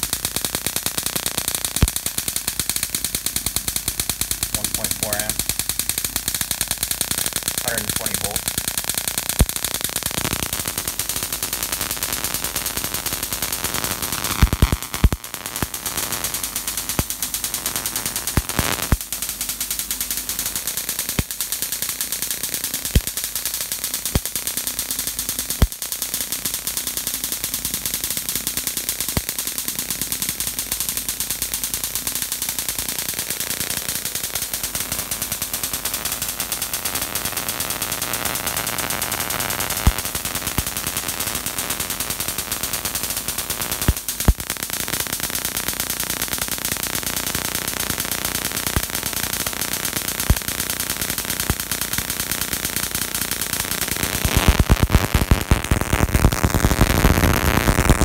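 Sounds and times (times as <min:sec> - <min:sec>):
electric sparks crackling: 0:00.0 - 0:58.0
sharp electric snaps: 0:00.0 - 0:58.0.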